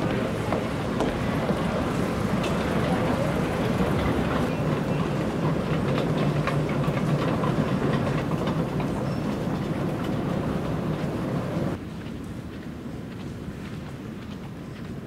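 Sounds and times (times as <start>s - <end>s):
moving walkway rumble: 0.0s - 15.0s.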